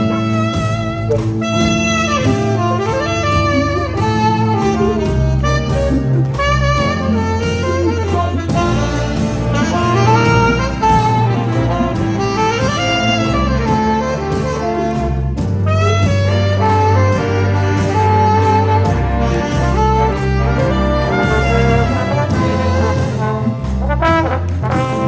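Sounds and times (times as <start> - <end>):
jazz big band playing: 0.0 - 25.0
saxophones: 0.0 - 25.0
walking bass: 0.0 - 25.0.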